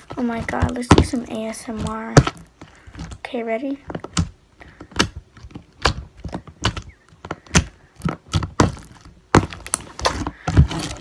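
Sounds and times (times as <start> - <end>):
sharp pops and clicks: 0.0 - 11.0.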